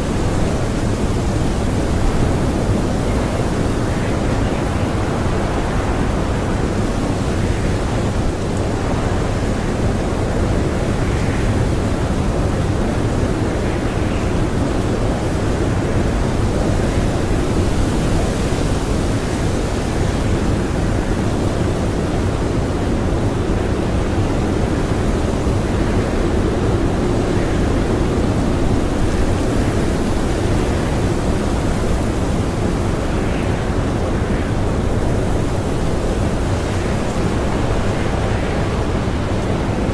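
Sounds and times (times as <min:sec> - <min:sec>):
blizzard wind blowing hard: 0:00.0 - 0:39.9.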